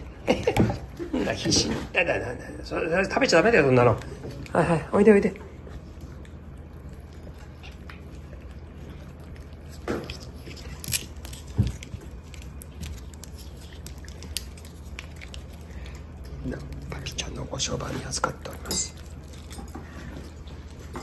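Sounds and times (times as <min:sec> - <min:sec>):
cat chewing and biting: 0:03.4 - 0:21.0.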